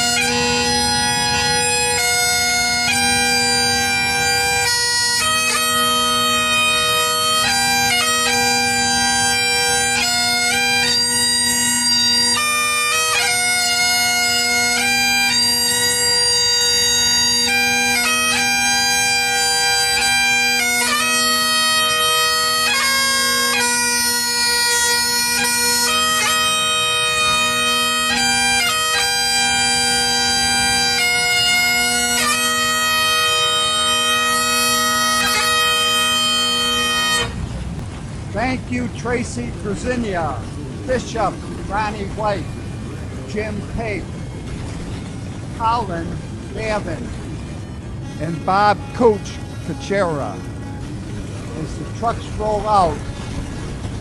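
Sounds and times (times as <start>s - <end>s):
bagpipe chanter melody: 0.0s - 54.0s
bagpipe drones: 0.0s - 54.0s.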